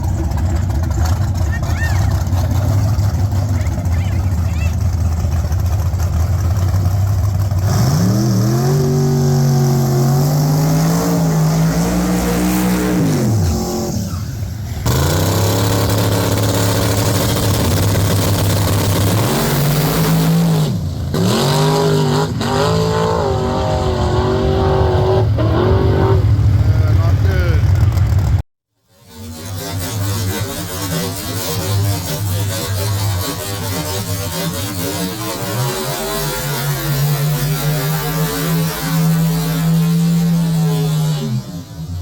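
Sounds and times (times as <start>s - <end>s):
truck engine revving: 0.0s - 28.4s, 29.0s - 42.0s.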